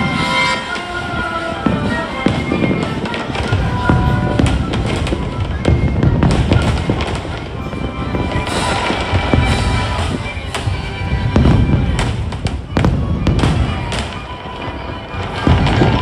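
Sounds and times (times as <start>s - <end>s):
fireworks bangs and cracks: 0.0s - 16.0s
music playing: 0.0s - 16.0s.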